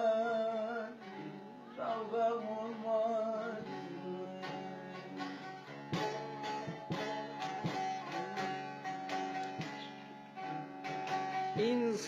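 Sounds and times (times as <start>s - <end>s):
person singing: 0.0s - 12.0s
plucked string instrument: 0.0s - 12.0s.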